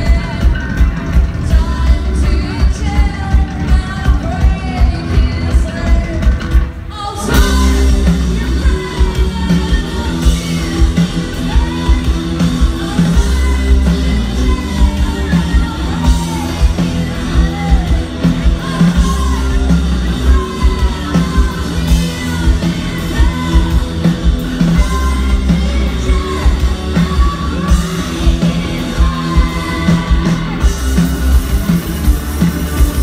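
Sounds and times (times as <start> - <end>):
woman singing: 0.0 - 31.0
live rock band: 0.0 - 33.0.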